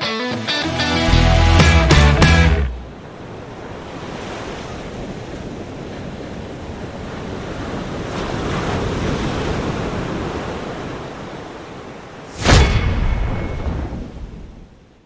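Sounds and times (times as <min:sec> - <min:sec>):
wind: 0:02.7 - 0:15.0.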